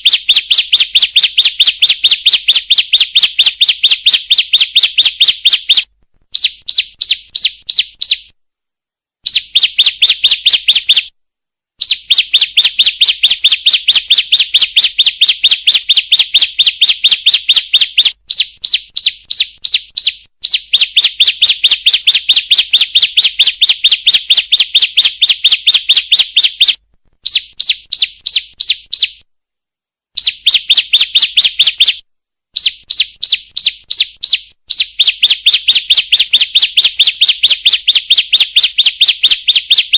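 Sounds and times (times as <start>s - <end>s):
bird high sharp chirps: 0.0s - 8.4s, 9.2s - 11.1s, 11.8s - 29.3s, 30.2s - 32.0s, 32.6s - 39.9s.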